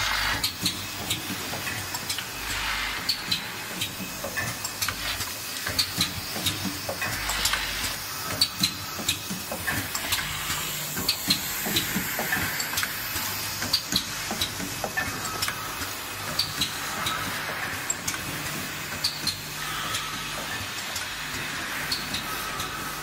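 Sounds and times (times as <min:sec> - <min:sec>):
machine hiss: 0:00.0 - 0:23.0.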